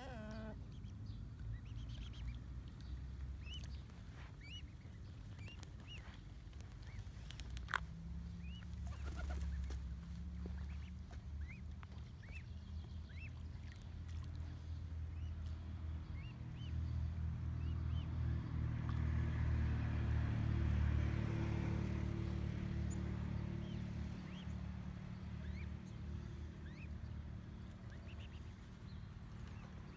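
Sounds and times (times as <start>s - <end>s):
cygnets peeping: 0.0s - 18.1s, 23.6s - 29.9s.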